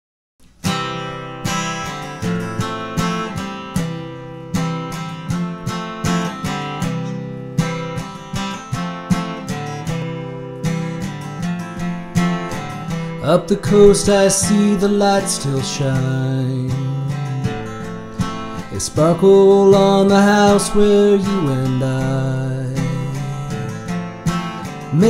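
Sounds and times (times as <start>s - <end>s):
acoustic guitar chords: 0.4s - 25.0s.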